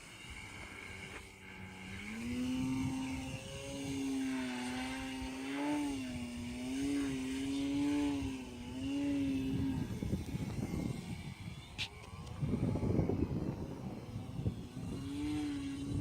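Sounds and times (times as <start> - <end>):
model airplane motor droning: 0.0 - 16.0.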